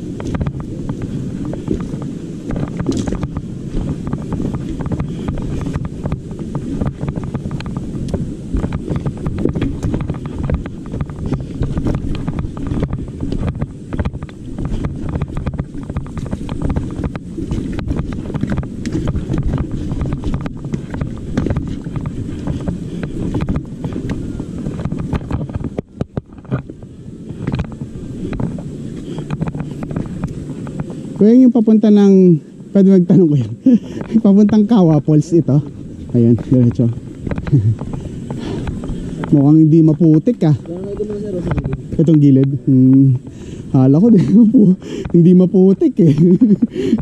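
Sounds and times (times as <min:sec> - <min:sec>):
bike knocks and rattles: 0:00.0 - 0:32.1, 0:33.1 - 0:47.0
mountain bike on rough dirt trail: 0:00.0 - 0:47.0
wind buffeting microphone: 0:00.0 - 0:47.0.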